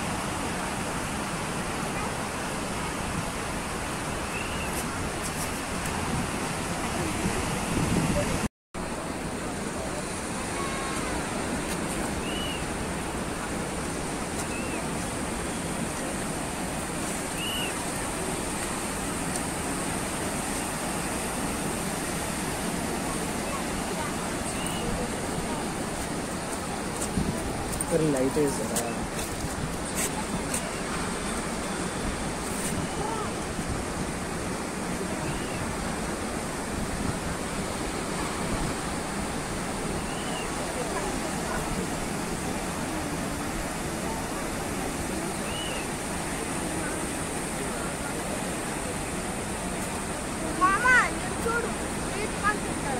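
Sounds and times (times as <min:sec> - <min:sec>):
surf breaking on a beach: 0:00.0 - 0:52.9.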